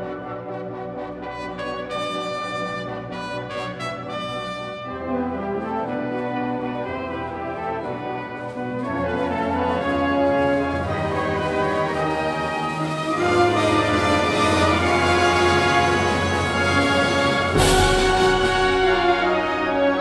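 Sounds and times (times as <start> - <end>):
wind band brass chords: 0.0 - 20.0.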